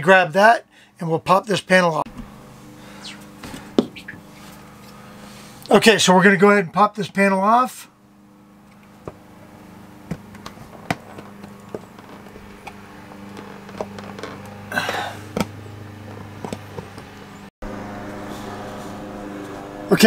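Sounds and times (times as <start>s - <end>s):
low motor drone: 2.0s - 20.0s.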